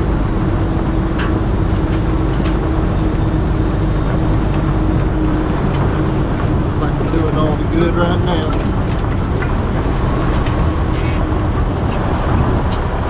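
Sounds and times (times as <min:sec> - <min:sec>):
truck diesel engine running: 0:00.0 - 0:13.0
tyres on gravel road: 0:00.0 - 0:13.0.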